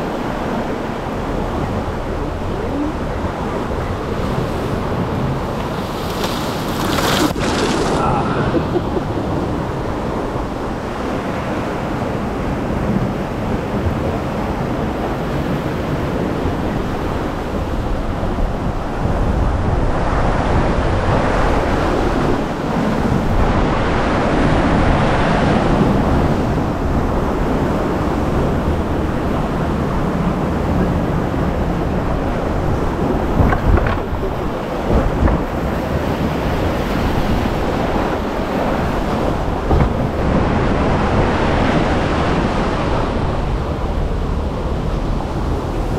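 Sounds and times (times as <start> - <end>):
water rushing and churning: 0.0 - 45.9.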